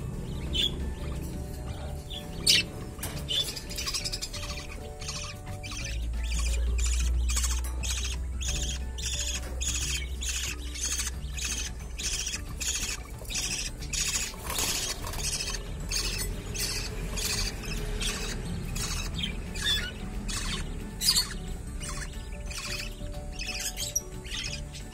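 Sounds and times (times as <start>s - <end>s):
chicks raspy begging calls: 0.0s - 24.9s.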